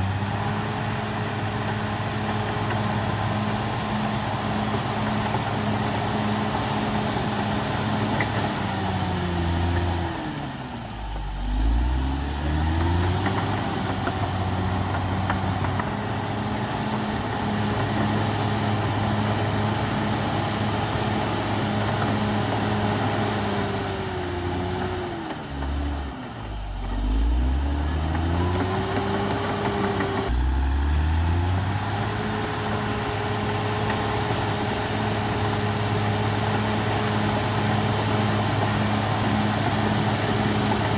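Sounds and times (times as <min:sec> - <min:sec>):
bulldozer diesel engine working: 0:00.0 - 0:40.9.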